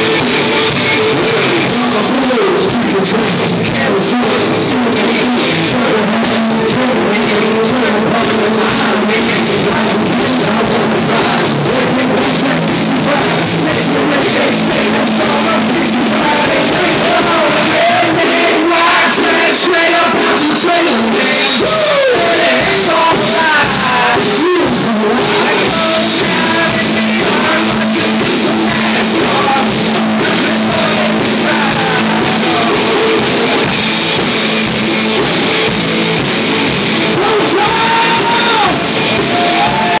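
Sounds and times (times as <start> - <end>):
loud rock-style music: 0.0 - 40.0
vocals sung and shouted: 0.0 - 40.0.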